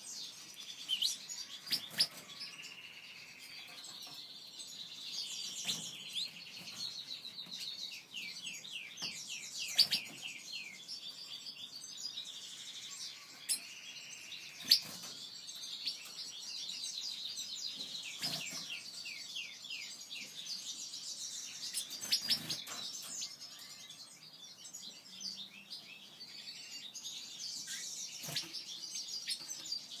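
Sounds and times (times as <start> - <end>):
birds twittering and singing: 0.0 - 30.0.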